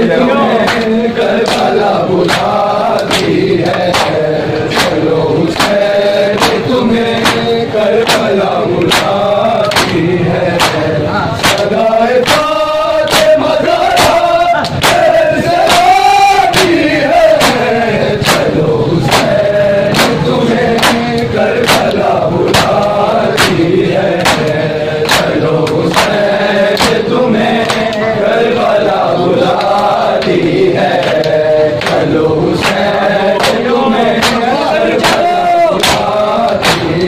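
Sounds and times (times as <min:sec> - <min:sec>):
men chanting a lament in unison: 0:00.0 - 0:37.0
hands slapping bare chests: 0:00.6 - 0:20.2, 0:20.8 - 0:28.1, 0:29.5 - 0:37.0.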